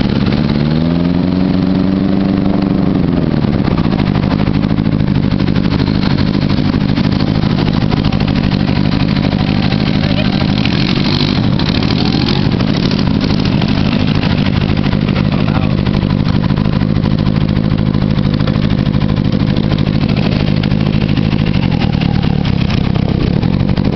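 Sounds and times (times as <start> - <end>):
quad engines rumbling: 0.0 - 23.9.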